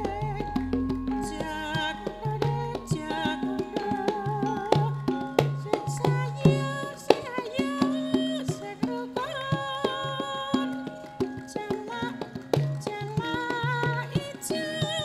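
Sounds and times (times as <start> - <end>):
hand drum strokes: 0.0 - 15.0
metallophones and gongs ringing: 0.0 - 15.0.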